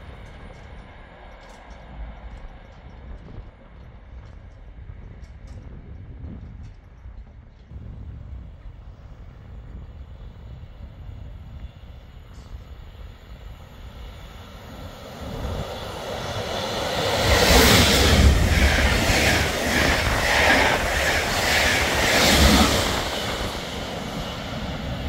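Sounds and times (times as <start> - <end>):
passenger train passing at speed: 0.0 - 6.3, 7.2 - 25.0.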